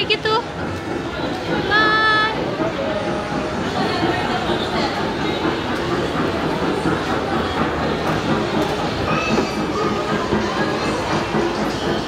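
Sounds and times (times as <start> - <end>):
mall background noise: 0.0 - 12.0
mini train rumbling: 0.0 - 12.0.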